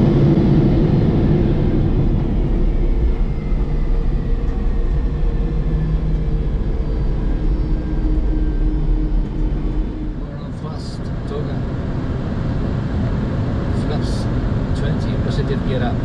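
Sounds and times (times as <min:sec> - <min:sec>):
cockpit low rush: 0:00.0 - 0:16.0.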